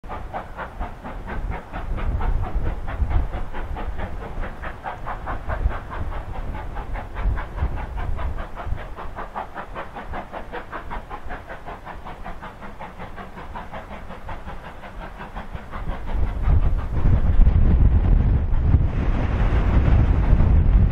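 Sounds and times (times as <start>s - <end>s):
steam locomotive exhaust chuffing: 0.0s - 20.9s
wind rumble on microphone: 0.1s - 11.0s, 15.0s - 20.9s.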